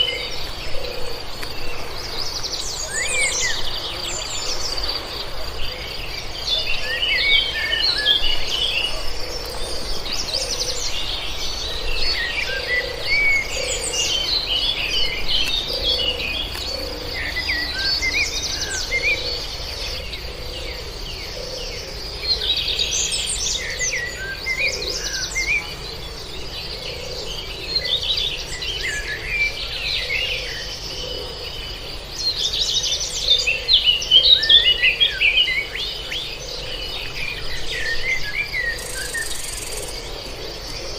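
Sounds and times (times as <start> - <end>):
birds chirping and singing: 0.0 - 40.9
insect drone: 0.0 - 40.9.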